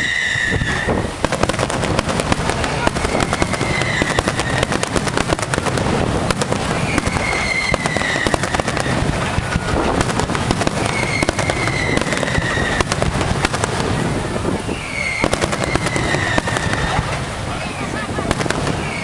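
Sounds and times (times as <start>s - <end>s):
fireworks shells bursting: 0.0s - 19.0s
high firework whistle: 0.0s - 19.0s.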